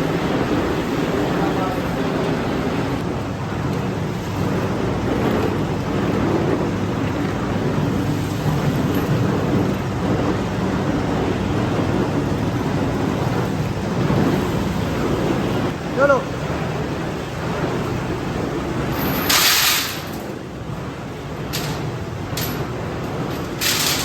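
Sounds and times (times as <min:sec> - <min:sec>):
factory machinery rumbling: 0:00.0 - 0:24.0.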